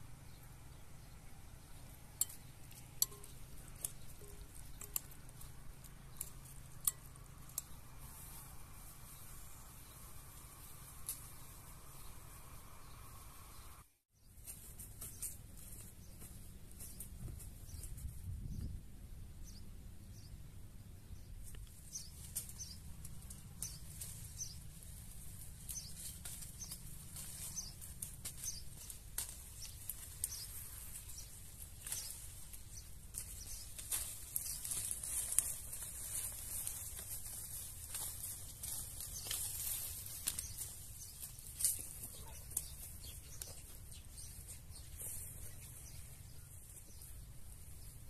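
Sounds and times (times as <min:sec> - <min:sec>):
leaves and grass rustling: 0:00.0 - 0:18.4, 0:21.3 - 0:48.0
small birds chirping: 0:00.0 - 0:48.0.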